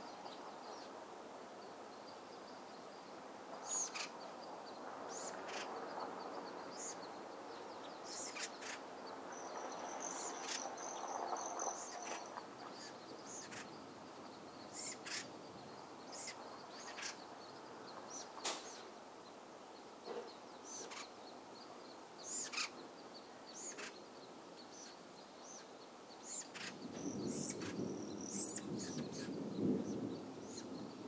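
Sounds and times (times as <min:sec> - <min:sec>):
faint steady background hiss: 0:00.0 - 0:31.0
birds chirping: 0:01.6 - 0:31.0.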